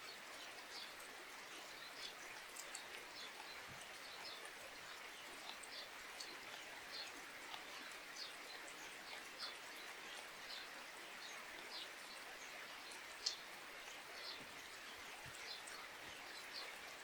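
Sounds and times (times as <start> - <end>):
light rain hiss: 0.0 - 17.0.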